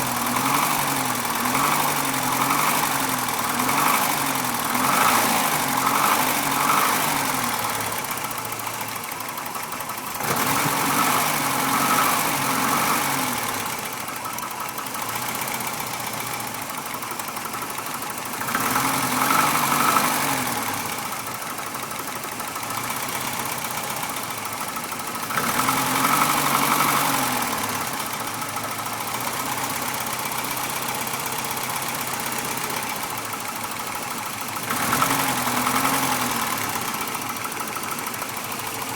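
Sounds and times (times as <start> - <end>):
engine idling with knock: 0.0 - 38.9.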